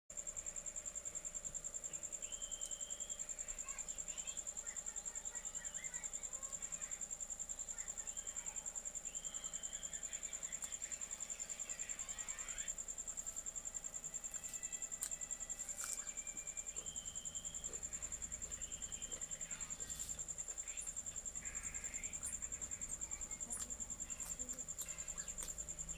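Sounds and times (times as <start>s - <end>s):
insect trilling: 0.2s - 25.9s.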